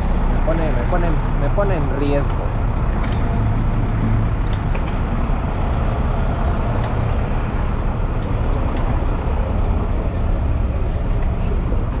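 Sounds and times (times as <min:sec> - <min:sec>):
road traffic noise: 0:00.0 - 0:12.0
truck engine rumble: 0:00.0 - 0:12.0.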